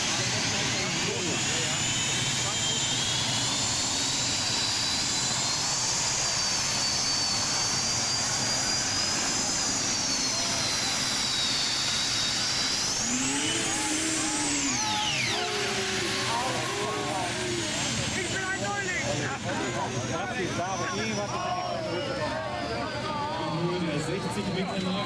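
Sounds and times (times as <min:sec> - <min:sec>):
tractor engine roaring with whine: 0:00.0 - 0:25.0.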